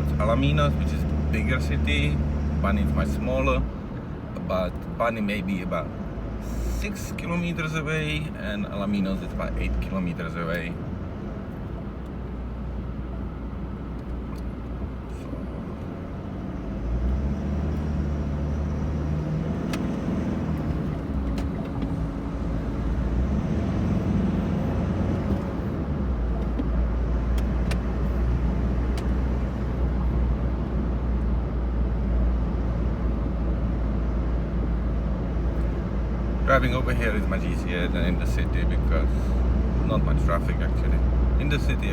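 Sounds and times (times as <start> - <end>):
vehicle engine and road rumble: 0.0 - 41.9.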